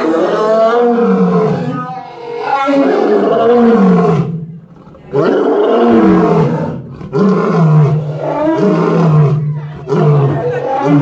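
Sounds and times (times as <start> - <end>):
lion roaring: 0.0 - 11.0.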